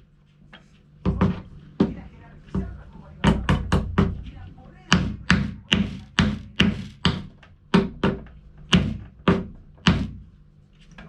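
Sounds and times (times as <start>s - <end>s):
hammer knocking on wood: 1.0s - 10.3s.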